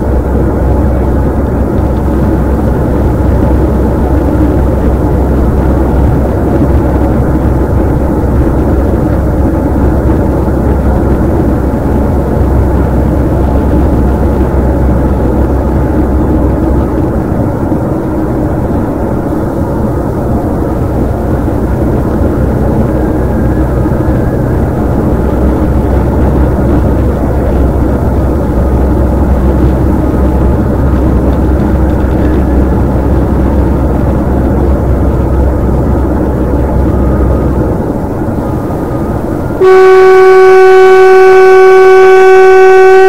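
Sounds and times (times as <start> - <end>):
vehicle engine and tyre drone: 0.0 - 43.0.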